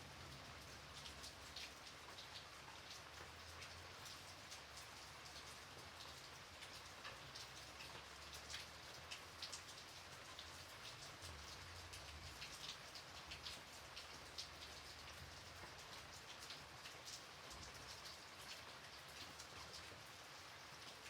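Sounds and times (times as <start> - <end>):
light rain hiss: 0.0 - 21.0.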